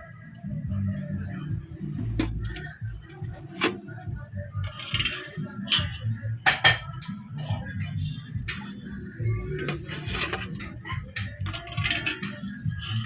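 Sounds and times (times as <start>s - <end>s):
background music: 0.0s - 13.0s
murmur of voices: 0.0s - 13.0s.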